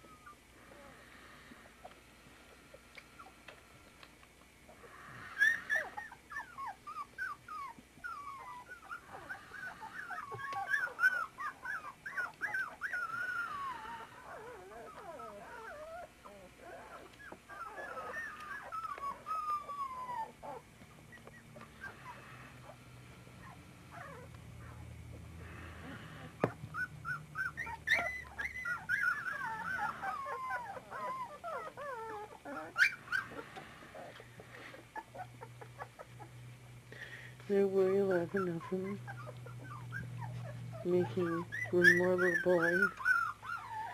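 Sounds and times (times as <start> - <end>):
puppies whimpering and whining: 0.0 - 2.0, 4.7 - 43.9.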